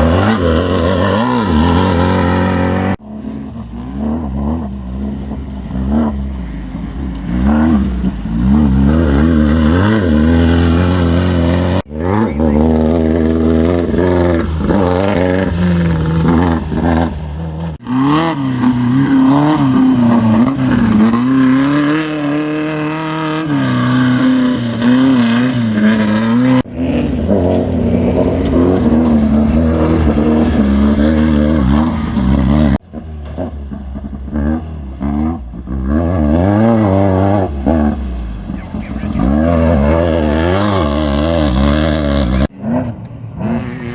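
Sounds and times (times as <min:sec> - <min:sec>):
race vehicle engines revving: 0:00.0 - 0:43.9.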